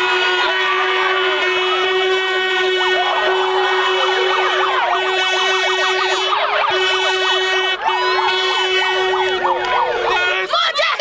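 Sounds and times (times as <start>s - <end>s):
megaphone siren sweeping: 0.0s - 11.0s
plastic horns droning: 0.0s - 11.0s.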